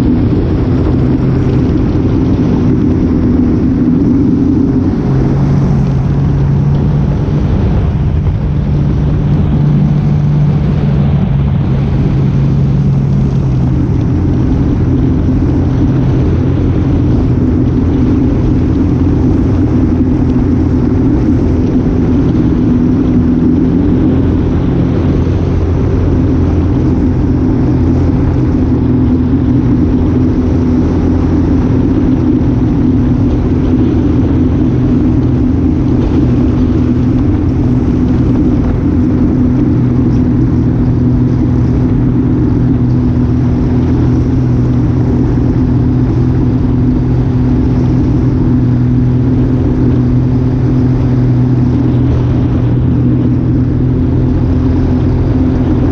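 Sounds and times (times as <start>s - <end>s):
engine droning: 0.0s - 55.9s.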